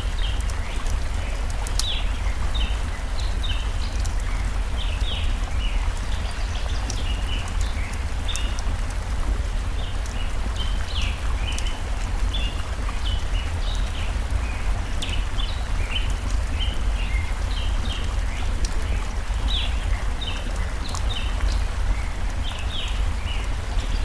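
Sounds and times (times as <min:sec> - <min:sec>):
campfire crackling: 0:00.0 - 0:24.0
stream rushing: 0:00.0 - 0:24.0.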